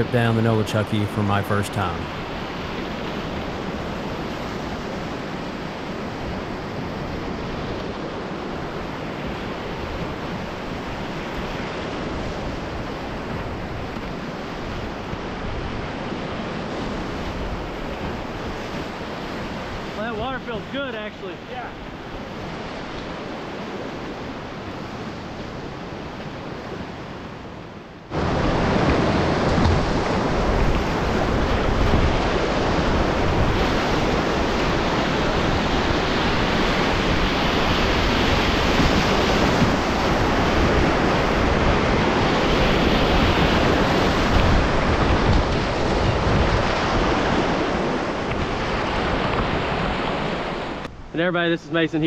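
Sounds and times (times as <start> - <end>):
rushing river water: 0.0 - 52.0.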